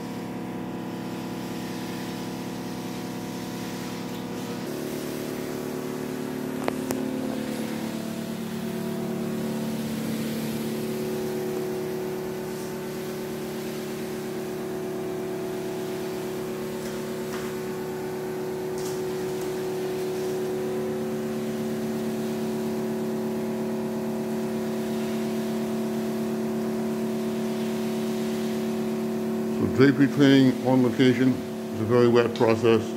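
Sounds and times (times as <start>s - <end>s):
extraction machine motors droning: 0.0s - 32.8s.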